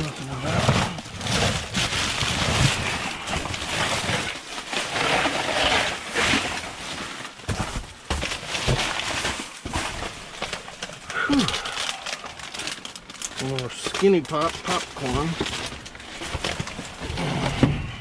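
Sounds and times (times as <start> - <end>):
plastic rustling and crinkling: 0.0 - 18.0.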